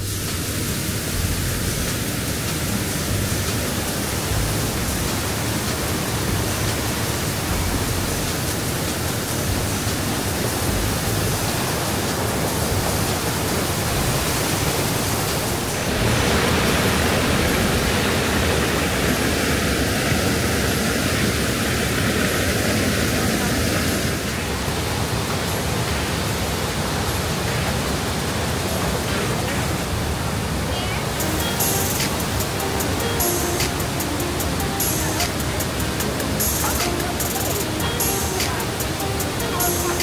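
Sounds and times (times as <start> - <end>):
waterfall roaring: 0.0 - 40.0.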